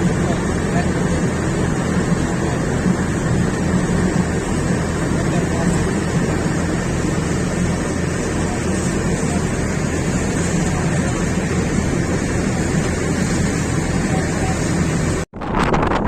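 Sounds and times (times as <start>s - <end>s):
loud engine rumble: 0.0s - 15.3s
wind buffeting microphone: 0.0s - 16.0s.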